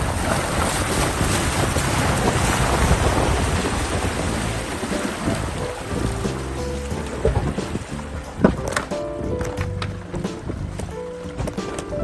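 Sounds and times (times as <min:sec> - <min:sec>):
tyres splashing through stream: 0:00.0 - 0:12.0.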